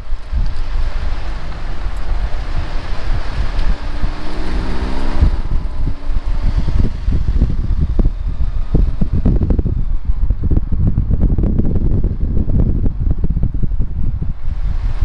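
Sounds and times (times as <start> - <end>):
vehicle engine and road rumble: 0.0 - 15.0
wind buffeting microphone: 0.0 - 15.0.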